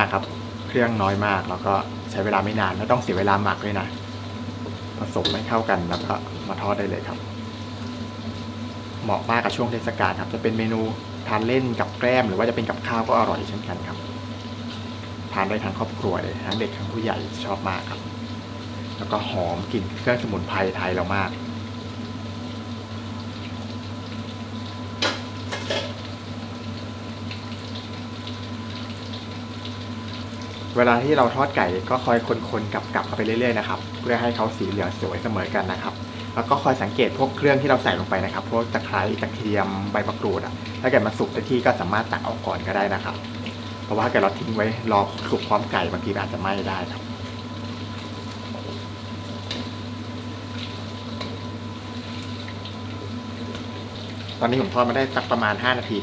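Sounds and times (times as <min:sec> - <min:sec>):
oil sizzling and bubbling: 0:00.0 - 0:56.0.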